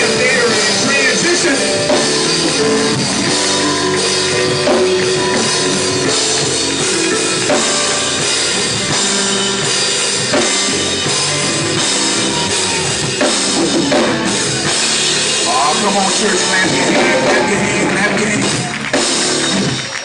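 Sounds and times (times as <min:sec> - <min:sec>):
drum kit beat: 0:00.0 - 0:20.0
gospel band playing: 0:00.0 - 0:20.0.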